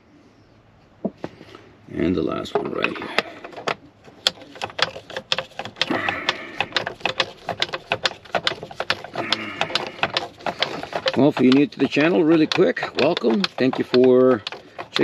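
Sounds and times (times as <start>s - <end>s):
screwdriver clicking and rattling: 2.5s - 15.0s.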